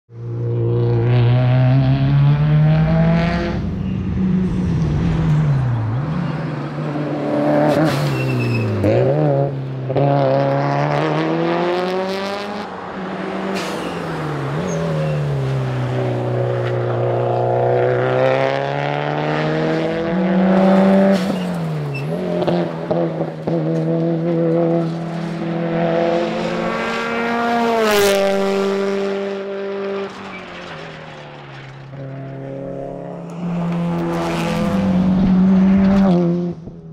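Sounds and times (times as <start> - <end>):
rally car engine revving hard: 0.4 - 3.6, 4.4 - 12.7, 14.4 - 30.1, 32.2 - 36.8.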